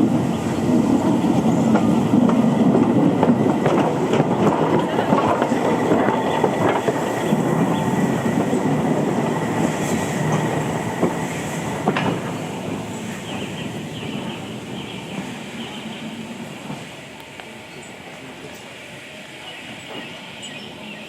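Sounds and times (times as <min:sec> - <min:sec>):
train wheels clicking over rails: 0:00.2 - 0:18.7.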